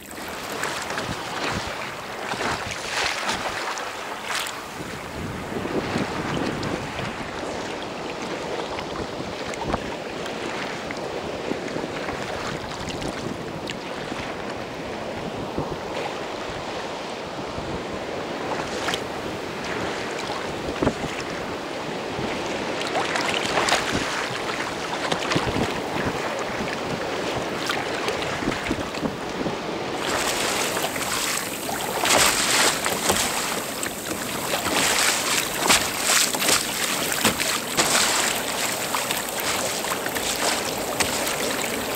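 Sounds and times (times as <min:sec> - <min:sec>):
sea water splashing against kayak: 0:00.0 - 0:41.9
wind buffeting microphone: 0:00.0 - 0:41.9.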